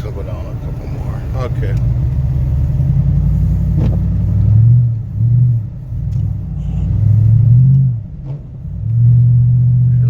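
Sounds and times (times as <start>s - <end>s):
car engine: 0.0s - 10.0s
road rumble: 0.0s - 10.0s.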